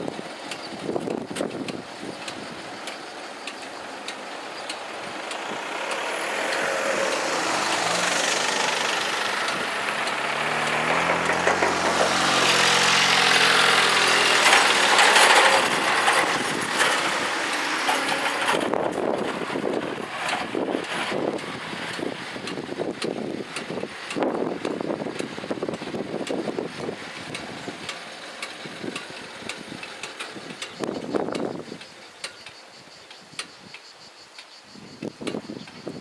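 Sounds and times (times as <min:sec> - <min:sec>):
car engine passing close: 0:00.0 - 0:32.8
cars pulling away: 0:00.0 - 0:35.5.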